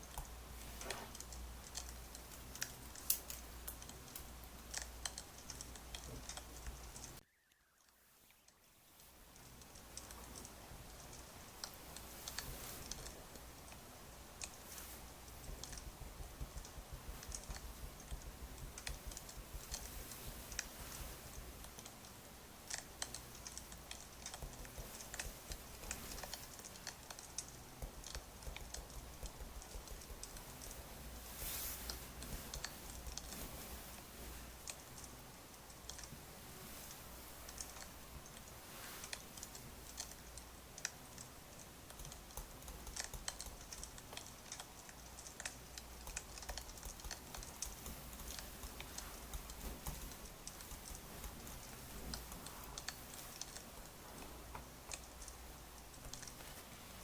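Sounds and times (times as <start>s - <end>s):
wood fire crackling: 0.0s - 7.2s, 9.0s - 57.0s.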